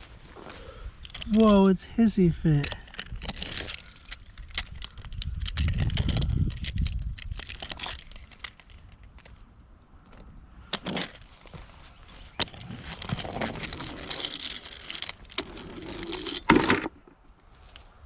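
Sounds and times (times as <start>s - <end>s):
dry leaves and twigs rustling: 0.0s - 18.0s.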